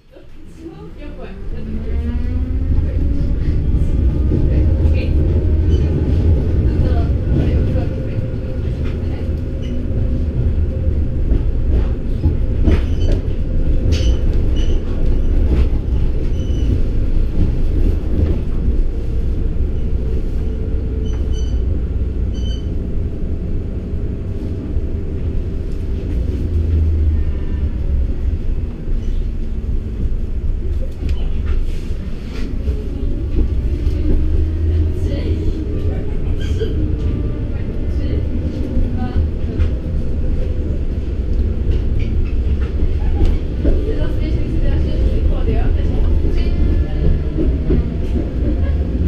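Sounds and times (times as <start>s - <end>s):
tram interior rumble: 0.0s - 49.0s.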